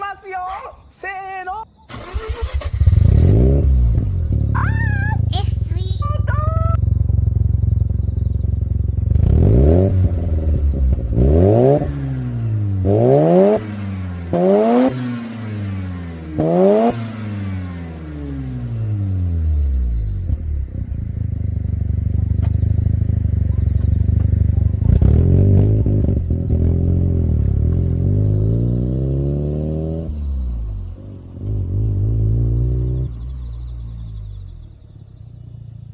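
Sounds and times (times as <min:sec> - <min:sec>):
rotary engine idling and revving: 0:01.9 - 0:05.4, 0:06.1 - 0:35.9.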